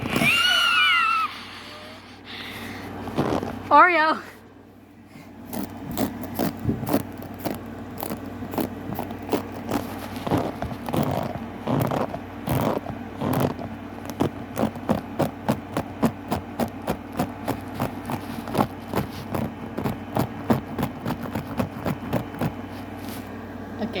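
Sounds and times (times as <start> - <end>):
comb scraping: 2.9 - 4.1, 5.4 - 23.4.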